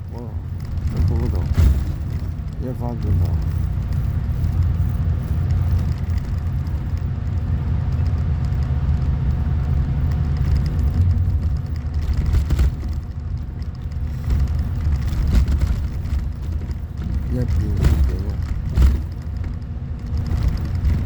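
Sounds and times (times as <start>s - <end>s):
motor vehicle low rumble: 0.0s - 21.0s.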